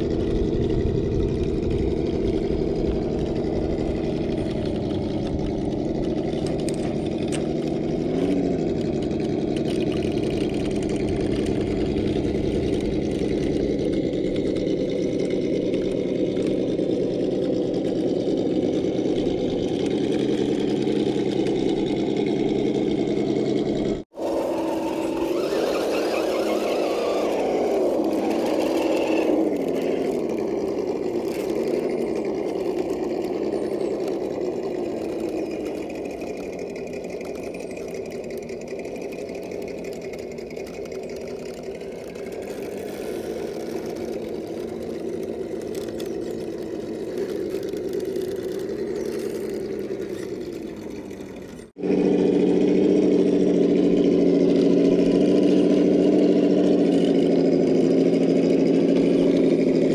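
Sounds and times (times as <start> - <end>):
electric motor and gearbox whining: 0.0 - 59.9.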